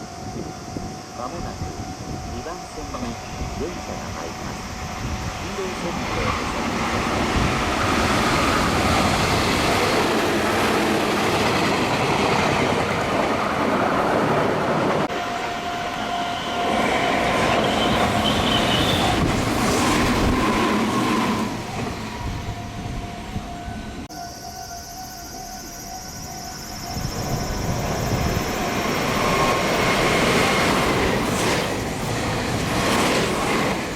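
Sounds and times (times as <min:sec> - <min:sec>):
train wheels rushing on rails: 0:00.0 - 0:24.0, 0:26.8 - 0:33.9.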